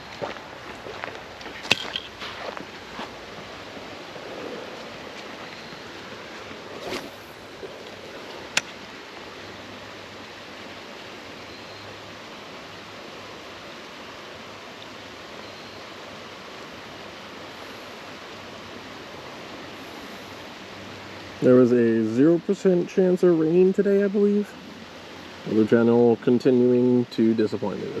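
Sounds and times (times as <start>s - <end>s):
creek water running: 0.0s - 28.0s.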